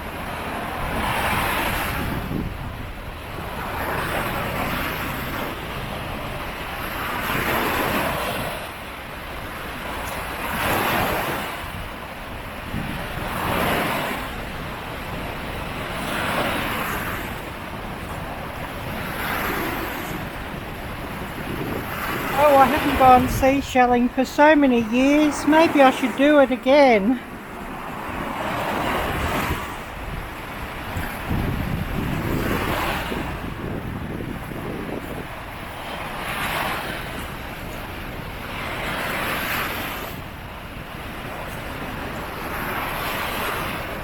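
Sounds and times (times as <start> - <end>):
wind rumble on microphone: 0.0 - 24.2, 27.2 - 44.0
ocean waves breaking on beach: 0.0 - 44.0.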